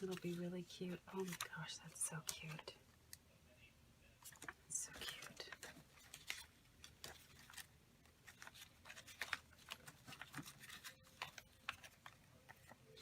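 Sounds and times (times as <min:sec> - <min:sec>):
paper rustling and ticking: 0:00.0 - 0:03.2, 0:04.2 - 0:13.0.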